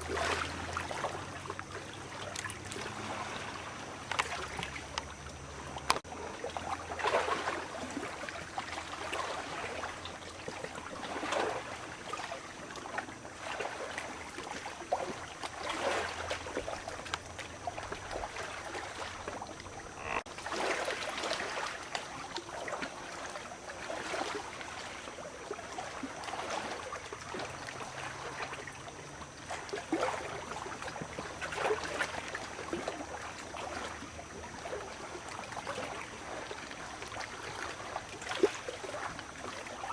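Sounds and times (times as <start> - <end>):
small waves lapping on a beach: 0.0 - 39.9.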